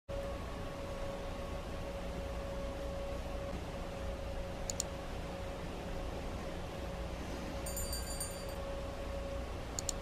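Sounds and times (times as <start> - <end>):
faint constant tone: 0.1 - 10.0
low room hum: 0.1 - 10.0.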